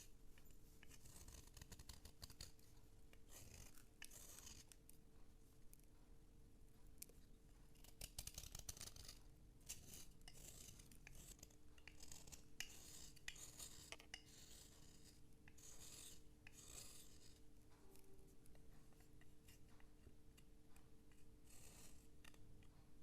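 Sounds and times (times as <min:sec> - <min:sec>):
scraping strokes on a slate: 0:00.0 - 0:04.9, 0:07.9 - 0:22.8.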